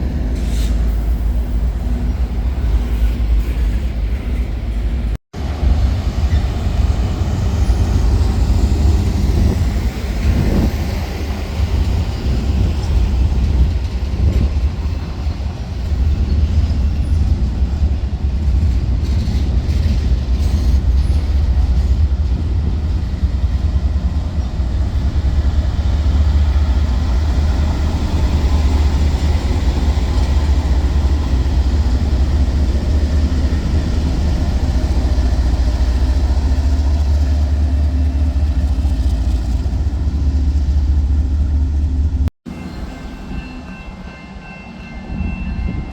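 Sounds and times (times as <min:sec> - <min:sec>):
train rumbling past: 0:00.0 - 0:45.9.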